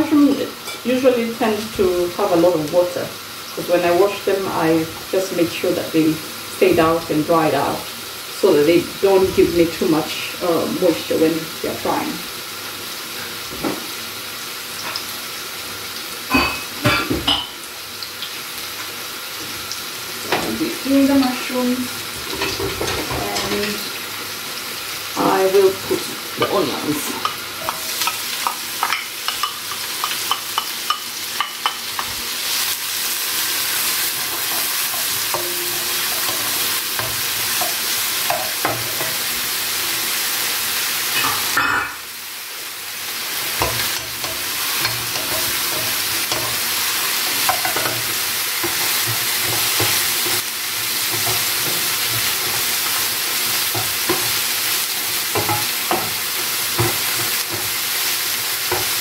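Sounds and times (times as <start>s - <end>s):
food sizzling in hot oil: 0.0s - 59.0s.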